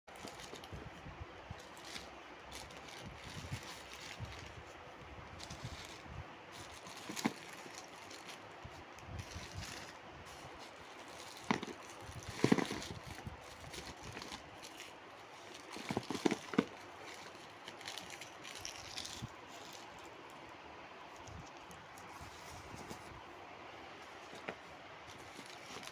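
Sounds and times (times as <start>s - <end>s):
parcel rustling and scraping: 0.1s - 20.4s, 21.0s - 25.9s.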